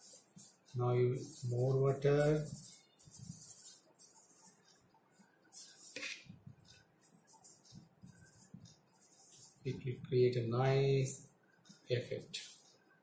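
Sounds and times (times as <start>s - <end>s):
paintbrush swishing on paper: 0.0s - 10.1s, 11.1s - 12.8s.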